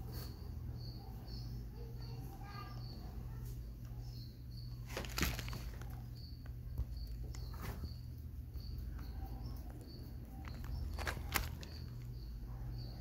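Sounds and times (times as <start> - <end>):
crickets chirping: 0.0 - 13.0
steady low hum: 0.0 - 13.0.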